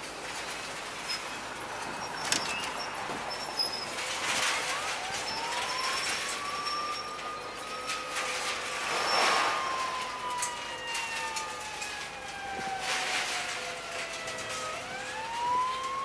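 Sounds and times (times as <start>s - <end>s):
debris crunching: 0.0s - 16.0s.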